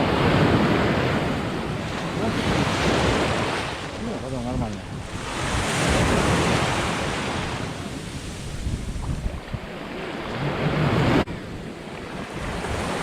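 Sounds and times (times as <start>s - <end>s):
sea waves breaking on shore: 0.0s - 13.0s
wind on microphone: 0.0s - 13.0s.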